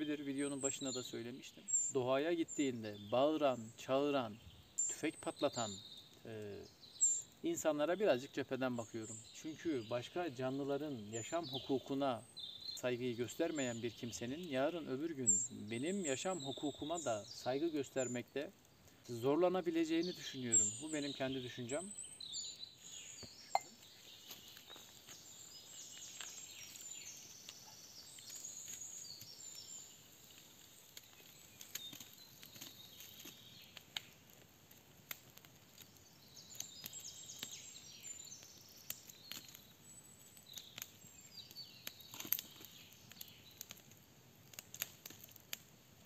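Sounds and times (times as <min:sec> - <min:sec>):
songbirds calling: 0:00.0 - 0:34.3, 0:35.3 - 0:45.2
campfire crackling and snapping: 0:01.6 - 0:07.7, 0:08.3 - 0:46.0.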